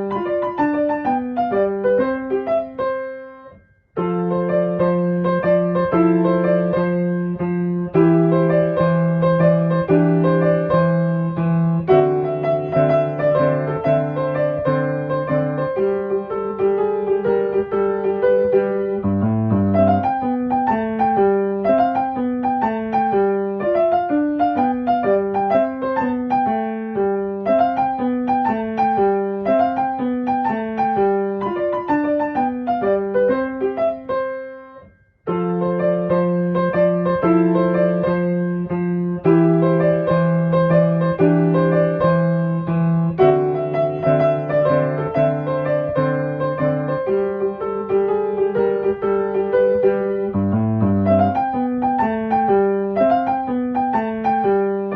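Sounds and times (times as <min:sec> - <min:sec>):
piano music: 0:00.0 - 0:54.9.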